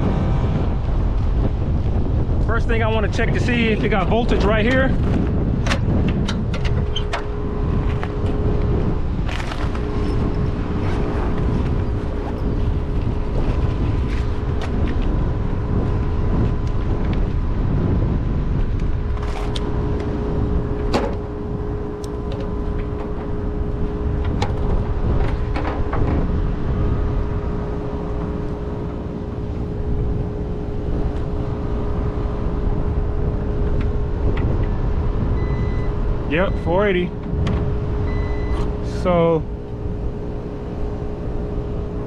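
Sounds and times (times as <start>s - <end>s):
hvac machinery droning: 0.0s - 42.0s.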